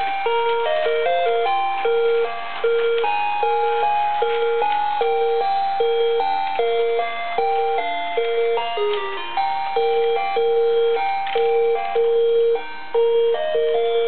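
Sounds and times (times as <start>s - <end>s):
toy train electronic beeping melody: 0.0s - 14.0s.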